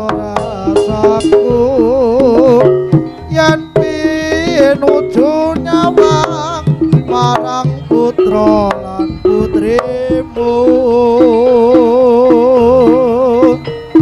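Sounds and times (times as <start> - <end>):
hand drum strokes: 0.0 - 14.0
wavering ornamented melody: 0.0 - 14.0.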